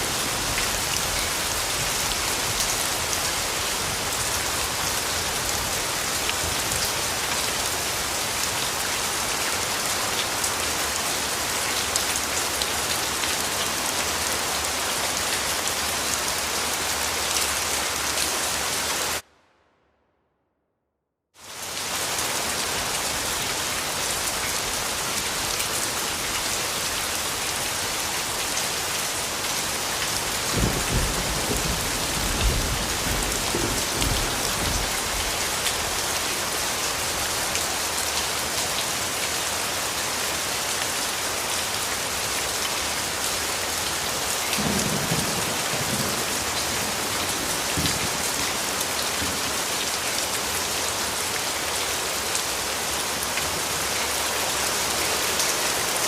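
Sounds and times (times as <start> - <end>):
rain falling: 0.0 - 19.2, 21.4 - 56.0.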